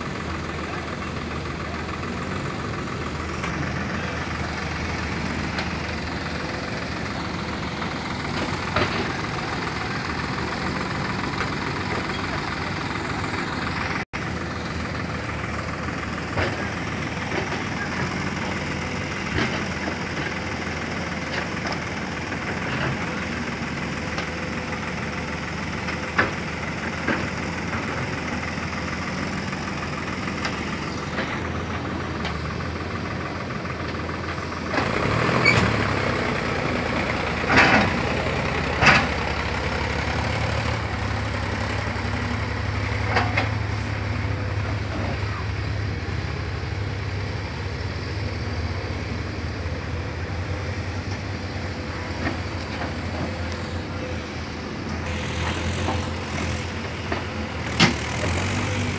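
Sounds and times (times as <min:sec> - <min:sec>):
heavy diesel engines running: 0:00.0 - 0:58.9.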